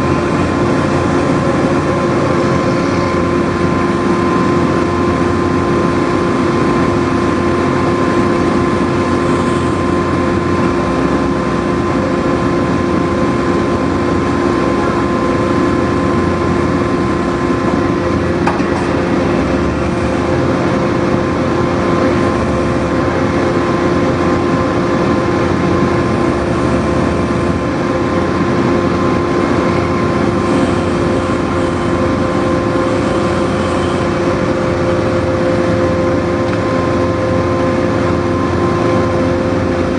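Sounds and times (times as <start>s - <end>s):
drilling machine engine drone: 0.0s - 39.9s
steady whine: 0.0s - 39.9s.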